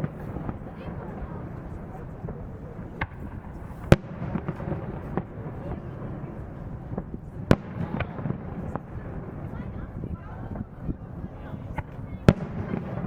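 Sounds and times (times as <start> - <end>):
fireworks bursting bangs: 0.0 - 13.0.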